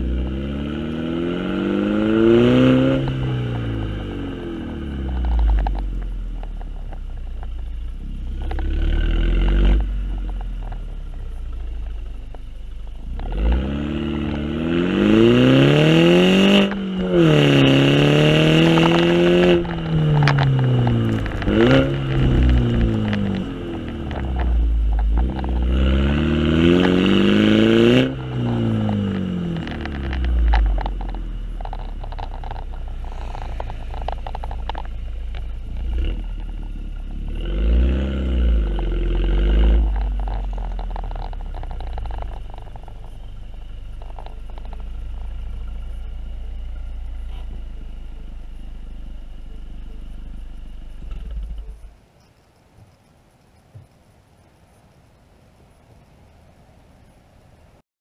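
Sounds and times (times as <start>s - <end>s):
car exhaust revving: 0.0s - 51.9s
wind and road rumble: 0.0s - 57.8s.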